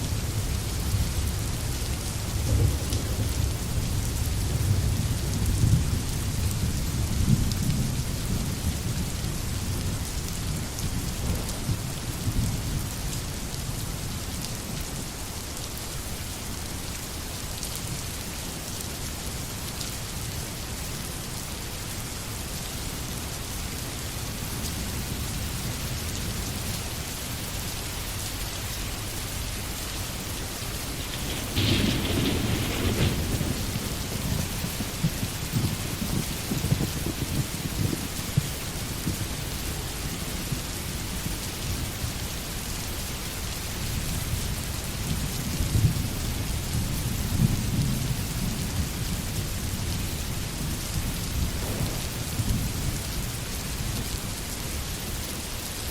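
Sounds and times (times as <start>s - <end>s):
rain falling in forest: 0.0s - 55.9s.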